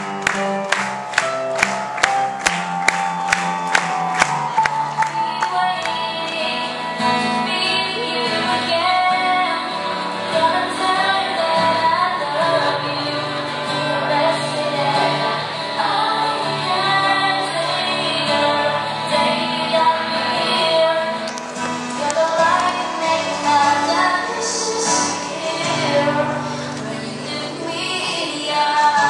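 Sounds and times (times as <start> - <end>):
acoustic guitar: 0.0 - 29.0
boy singing into a microphone: 5.2 - 29.0.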